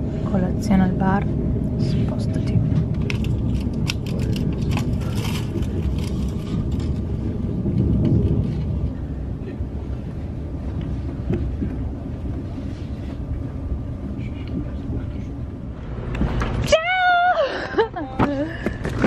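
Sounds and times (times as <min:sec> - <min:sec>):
train interior rumble: 0:00.0 - 0:19.0.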